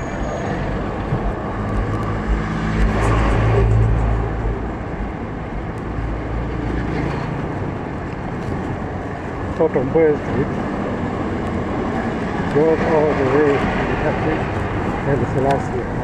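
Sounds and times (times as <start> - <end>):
bus engines running: 0.0 - 16.0
steady road noise: 0.0 - 16.0.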